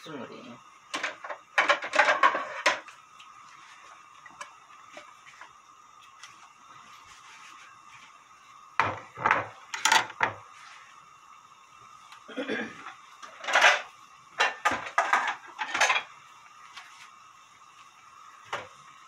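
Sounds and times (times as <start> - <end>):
gas stove hiss: 0.0 - 19.0
soup simmering with bubbling ticks: 0.6 - 19.0.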